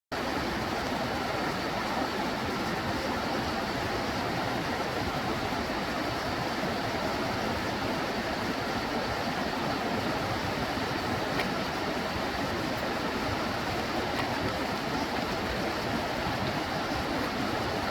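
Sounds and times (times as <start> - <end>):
mountain stream rushing: 0.2 - 17.9.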